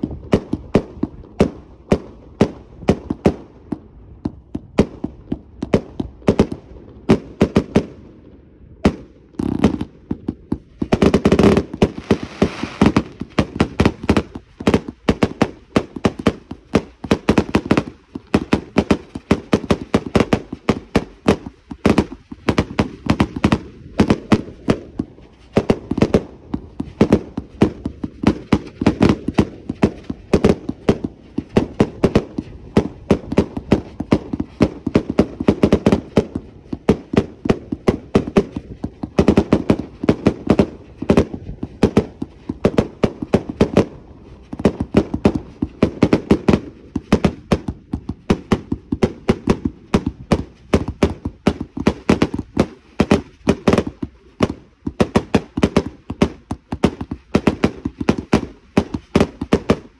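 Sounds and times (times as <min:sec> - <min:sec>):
firework bursts banging: 0:00.0 - 0:08.1, 0:08.8 - 0:59.9.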